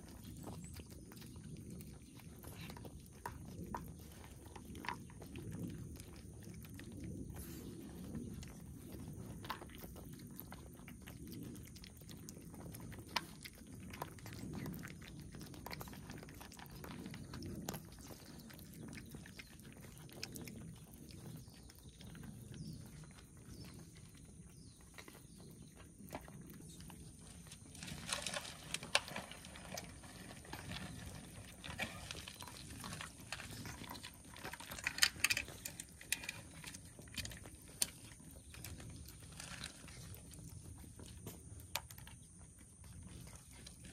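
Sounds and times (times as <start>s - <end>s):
cats eating crunching: 0.0s - 43.9s.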